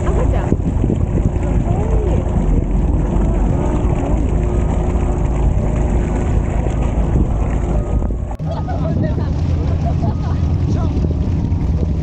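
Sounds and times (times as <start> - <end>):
boat engine running: 0.0 - 12.0
water noise: 0.0 - 12.0
wind on microphone: 0.0 - 12.0.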